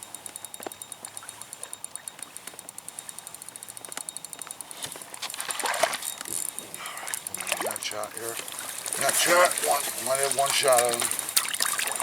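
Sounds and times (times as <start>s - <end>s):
fishing reel clicking: 0.0s - 12.0s.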